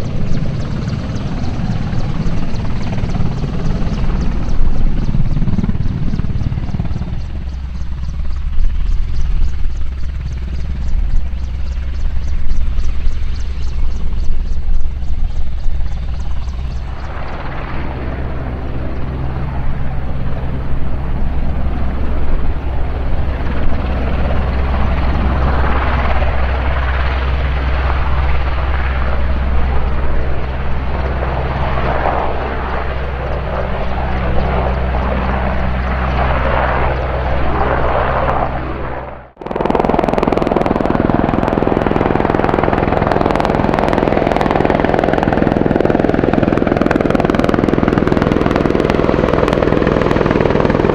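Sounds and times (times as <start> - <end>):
helicopter hovering: 0.0 - 50.9
helicopter rotor beating evenly: 0.0 - 50.9.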